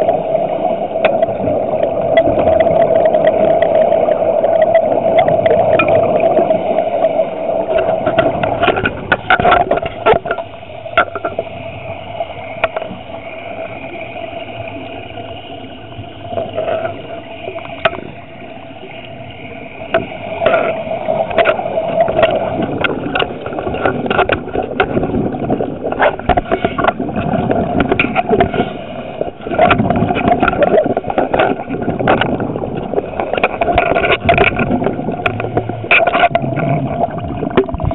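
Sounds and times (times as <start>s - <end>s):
muffled underwater hum: 0.0s - 37.9s.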